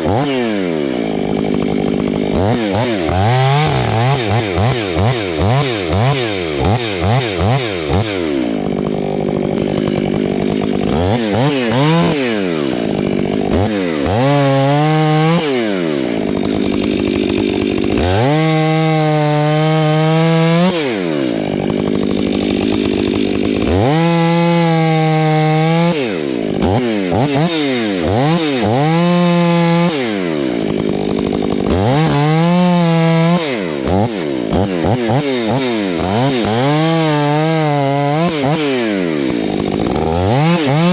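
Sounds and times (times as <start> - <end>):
chainsaw revving cutting wood: 0.0 - 40.9.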